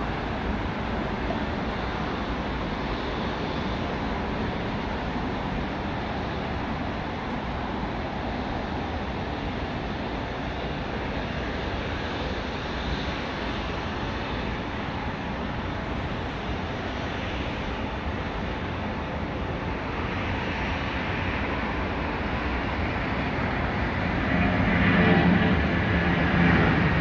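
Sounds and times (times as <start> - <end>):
jet engines at takeoff power: 0.0 - 27.0.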